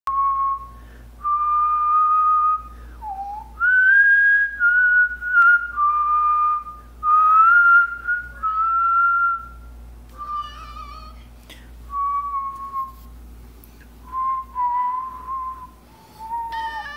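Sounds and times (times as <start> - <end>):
person whistling a slow tune: 0.1 - 10.5, 11.9 - 13.1, 14.0 - 16.9.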